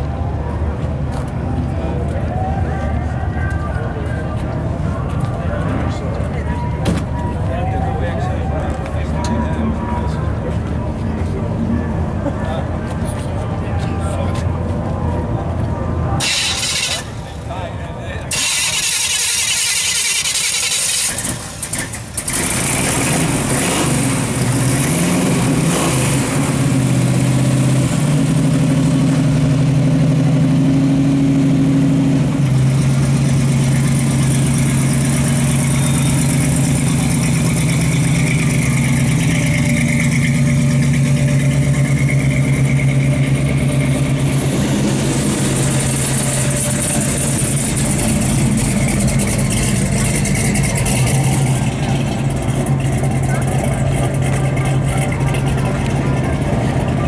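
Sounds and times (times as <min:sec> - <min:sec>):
truck engine starting and idling: 0:00.0 - 0:57.0.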